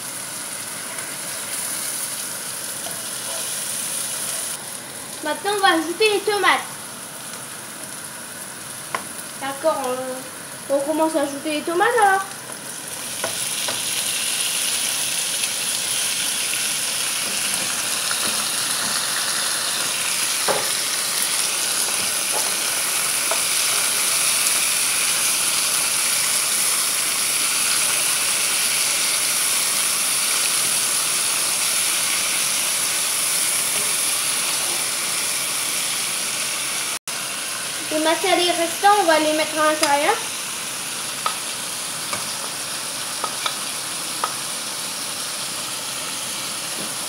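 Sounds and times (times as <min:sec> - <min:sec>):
vegetables sizzling in oil: 0:00.0 - 0:47.0.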